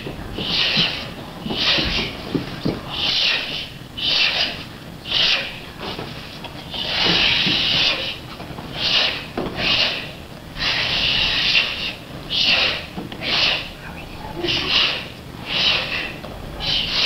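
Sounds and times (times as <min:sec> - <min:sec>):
forceful hissing breaths: 0:00.0 - 0:17.0.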